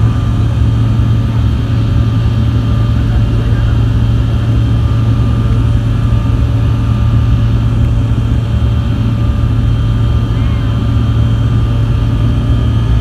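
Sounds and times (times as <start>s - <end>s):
loud engine drone: 0.0s - 13.0s.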